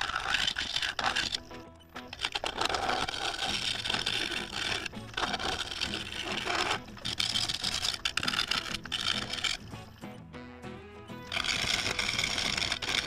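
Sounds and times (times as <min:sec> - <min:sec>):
tool scraping wood on lathe: 0:00.0 - 0:10.2, 0:11.2 - 0:13.0.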